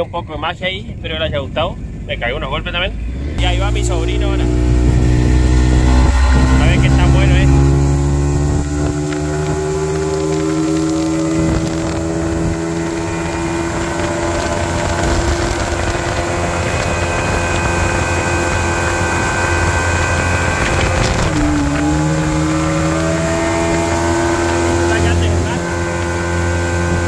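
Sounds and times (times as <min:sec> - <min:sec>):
outboard motor running: 0:02.8 - 0:27.0.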